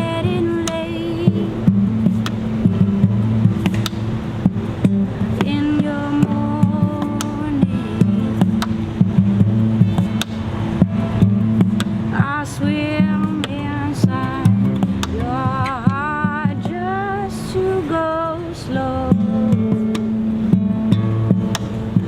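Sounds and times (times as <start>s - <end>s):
bending guitar melody: 0.0s - 22.0s
low repeating guitar figure: 0.0s - 22.0s.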